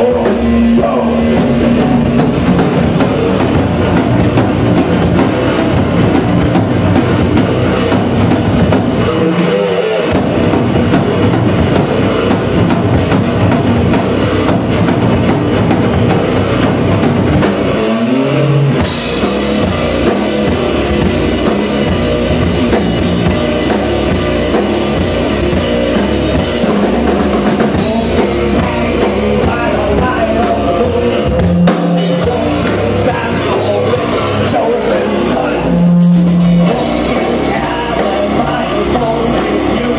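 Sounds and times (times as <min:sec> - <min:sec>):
rock band playing loud: 0:00.0 - 0:39.9.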